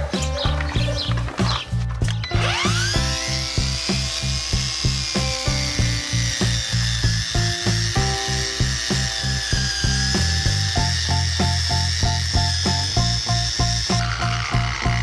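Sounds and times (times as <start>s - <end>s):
background music with beat: 0.0s - 15.0s
angle grinder whine: 2.1s - 15.0s.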